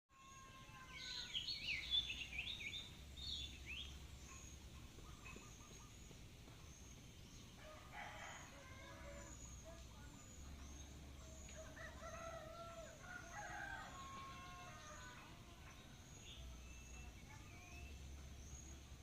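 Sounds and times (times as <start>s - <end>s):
faint bird chirps: 0.1s - 12.3s, 14.7s - 19.0s.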